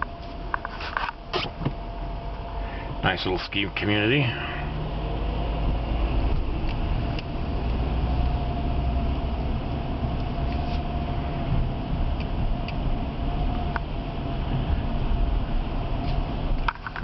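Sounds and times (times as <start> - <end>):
car cabin road rumble: 0.0 - 17.0
faint steady whine: 0.0 - 17.0.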